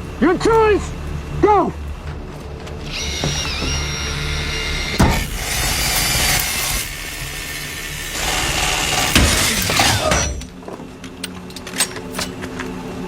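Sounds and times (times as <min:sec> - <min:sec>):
high mechanical whine: 0:00.0 - 0:13.0.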